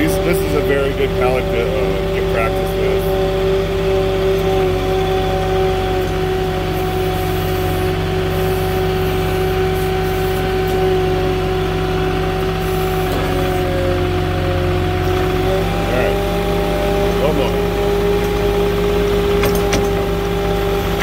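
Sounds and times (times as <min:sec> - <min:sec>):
forklift engine humming: 0:00.0 - 0:21.0.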